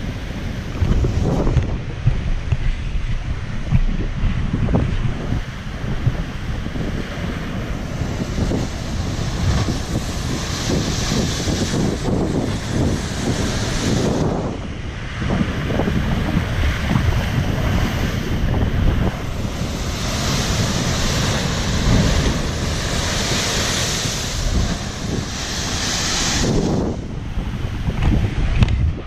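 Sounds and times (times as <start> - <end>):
wind buffeting microphone: 0.0 - 29.0
heavy surf breaking on rocks: 4.5 - 29.0.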